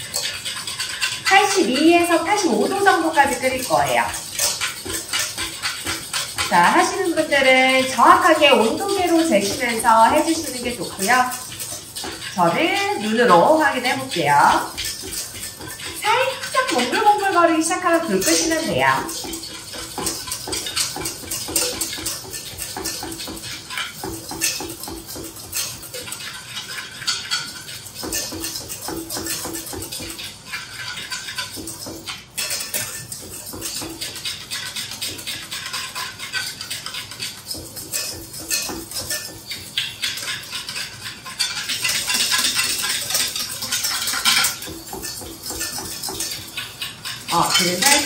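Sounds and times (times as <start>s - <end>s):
whisk scraping metal pan: 0.0s - 48.0s.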